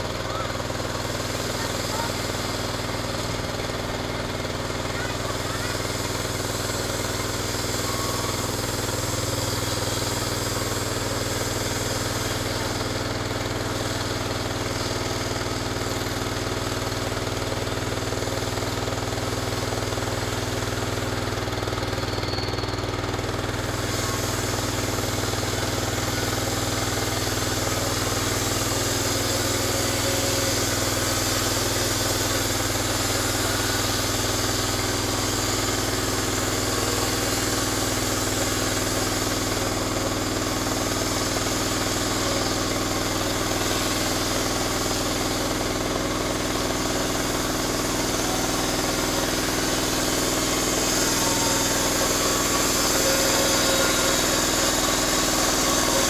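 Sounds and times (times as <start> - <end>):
band saw blade cutting log: 0.0 - 56.0
sawmill engine running: 0.0 - 56.0.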